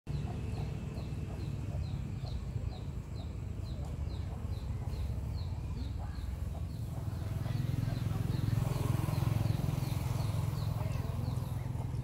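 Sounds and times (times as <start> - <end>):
low outdoor rumble: 0.1 - 12.0.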